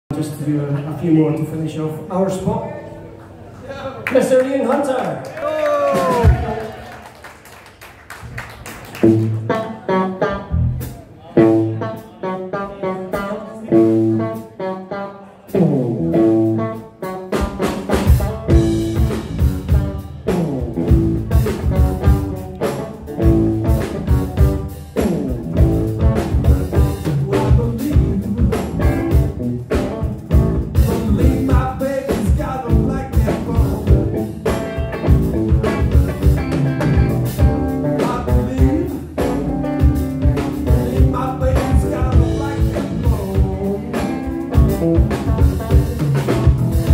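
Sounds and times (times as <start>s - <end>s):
blues-rock band playing: 5.8s - 6.9s, 8.0s - 46.9s
electric guitar riff: 8.9s - 46.9s.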